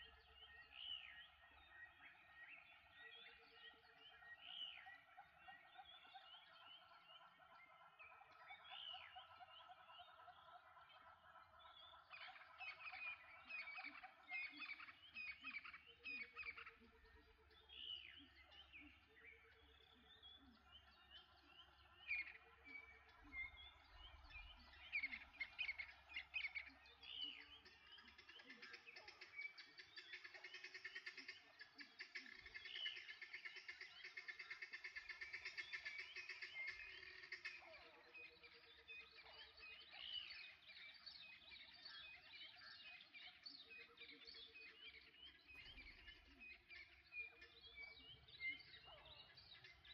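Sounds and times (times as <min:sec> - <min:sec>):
wild birds chirping: 0:00.0 - 0:49.9.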